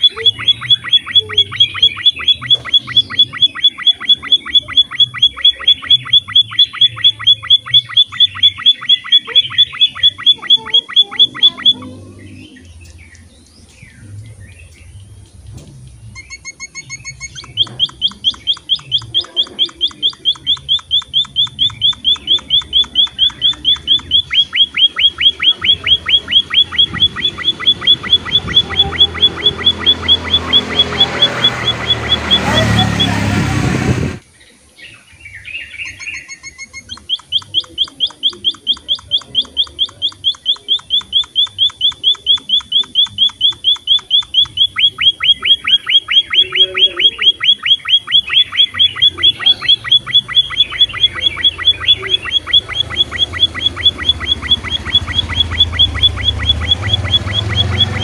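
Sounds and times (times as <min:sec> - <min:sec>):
finch chirping rapidly: 0:00.0 - 0:34.2, 0:34.8 - 0:58.0.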